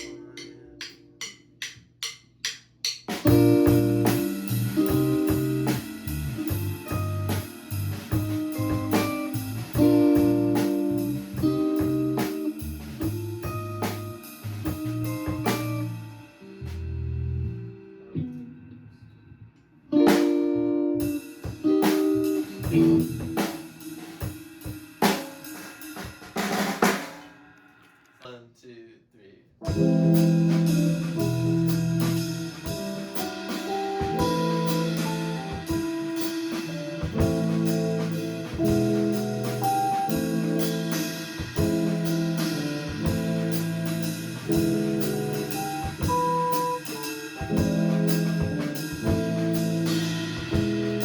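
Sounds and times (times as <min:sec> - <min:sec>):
drum kit hits: 0:00.0 - 0:17.0, 0:20.0 - 0:27.6, 0:29.6 - 0:51.0
band playing: 0:03.2 - 0:17.6, 0:19.9 - 0:27.3, 0:29.6 - 0:51.0
electric guitar chords: 0:03.2 - 0:18.9, 0:19.9 - 0:24.4, 0:29.6 - 0:51.0.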